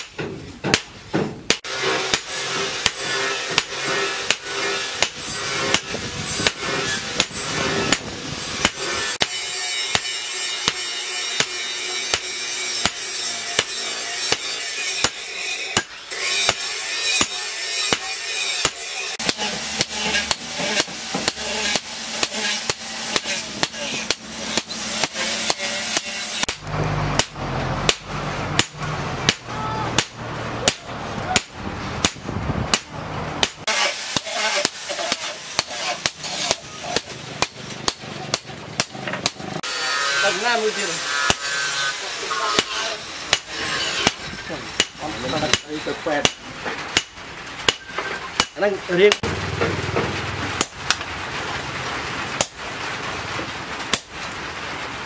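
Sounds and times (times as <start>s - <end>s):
hammer striking metal on anvil: 0.0s - 49.3s, 50.0s - 51.0s.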